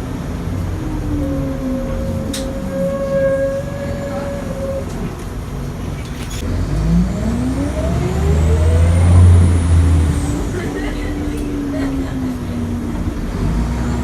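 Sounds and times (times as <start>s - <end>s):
bus engine and gearbox whine: 0.0s - 14.0s.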